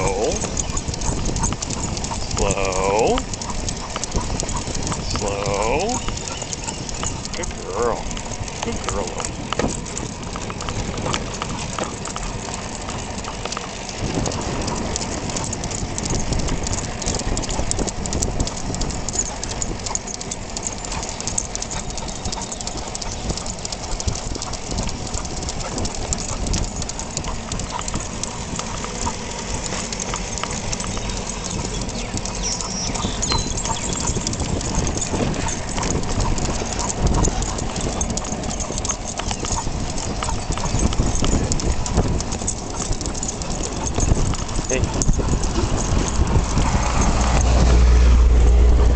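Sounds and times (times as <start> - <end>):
bicycle clicks and rattles: 0.0 - 48.9
wind and road rumble: 0.0 - 48.9.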